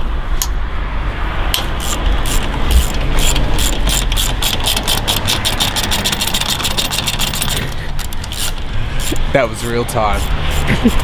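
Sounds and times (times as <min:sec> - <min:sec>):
ratchet wrench clicking: 0:01.5 - 0:11.0.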